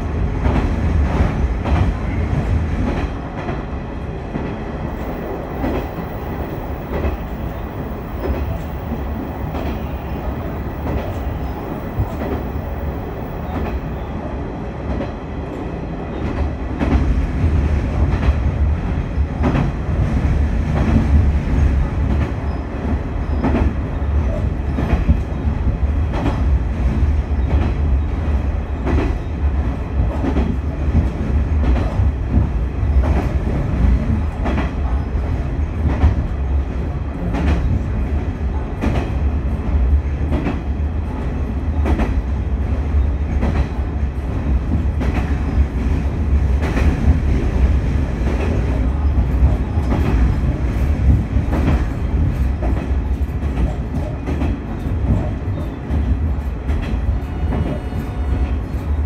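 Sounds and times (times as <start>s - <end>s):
railcar rumble: 0.0s - 59.0s.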